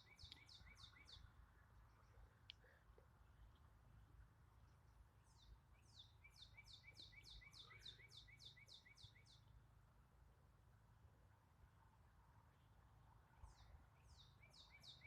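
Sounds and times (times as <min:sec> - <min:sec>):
songbird singing faintly: 0:00.0 - 0:15.0.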